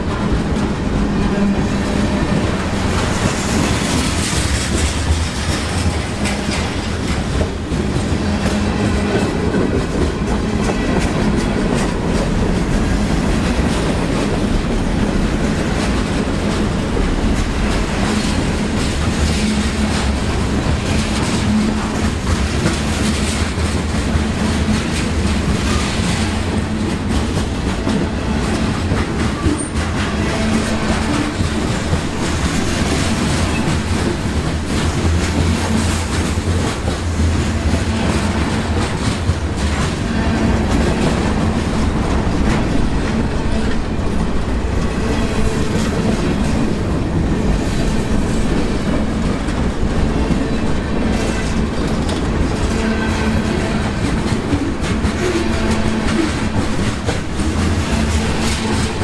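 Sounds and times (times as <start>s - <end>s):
steel wheels rumbling on rail: 0.0s - 59.0s
wheels clicking over rail joints: 0.1s - 59.0s.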